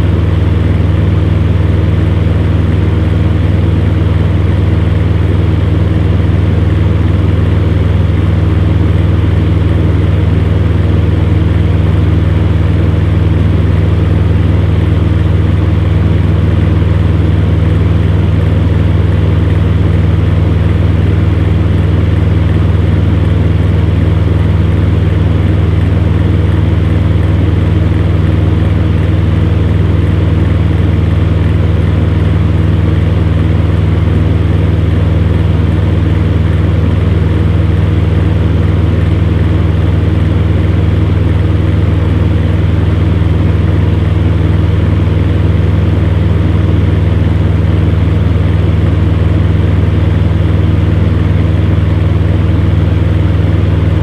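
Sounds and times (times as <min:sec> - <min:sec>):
fan heater hum: 0:00.0 - 0:54.0.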